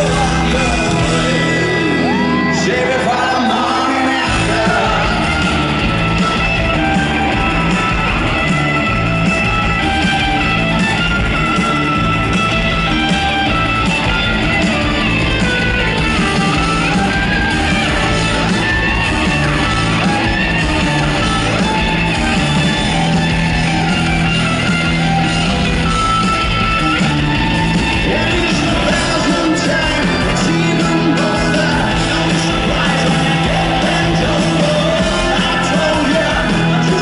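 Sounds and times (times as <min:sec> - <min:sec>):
bass guitar: 0:00.0 - 0:37.0
drums: 0:00.0 - 0:37.0
electric guitar: 0:00.0 - 0:37.0.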